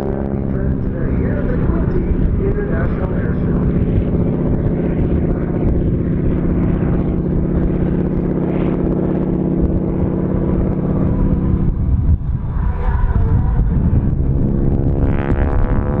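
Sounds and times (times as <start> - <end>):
radial engine and propeller running: 0.0 - 16.0.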